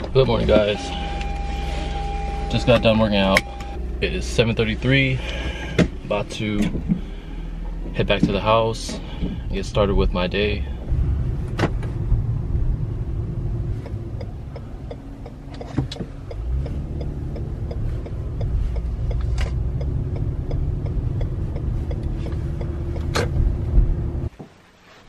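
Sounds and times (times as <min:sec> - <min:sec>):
car engine and tyres rumbling on snow: 0:00.0 - 0:25.0.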